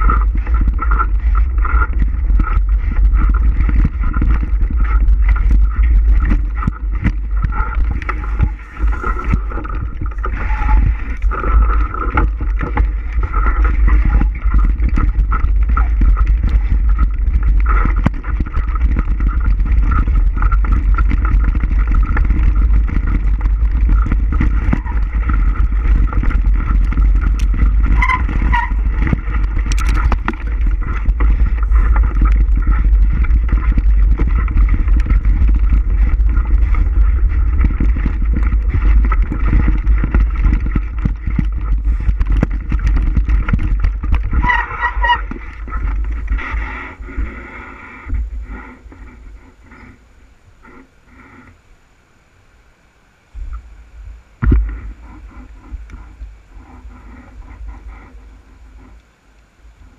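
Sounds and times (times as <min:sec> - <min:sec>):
wind buffeting microphone: 0:00.0 - 0:51.4, 0:53.3 - 0:59.9
bike tyre and trail noise: 0:00.0 - 0:59.9.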